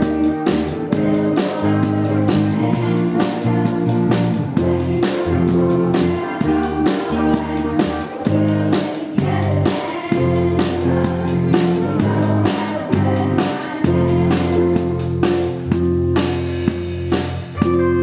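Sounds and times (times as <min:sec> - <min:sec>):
live band playing: 0:00.0 - 0:18.0
steady drum beat: 0:00.0 - 0:18.0.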